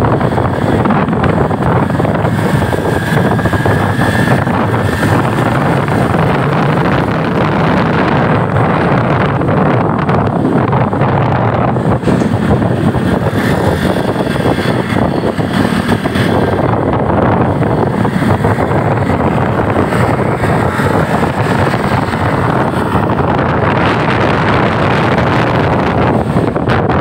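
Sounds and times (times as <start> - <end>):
vehicle road noise: 0.0 - 27.0
wind on microphone: 0.0 - 27.0.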